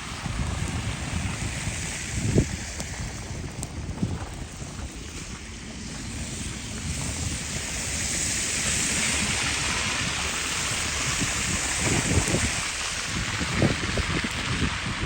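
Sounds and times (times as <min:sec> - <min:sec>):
outdoor hiss: 0:00.0 - 0:15.0
wind on microphone: 0:00.0 - 0:15.0.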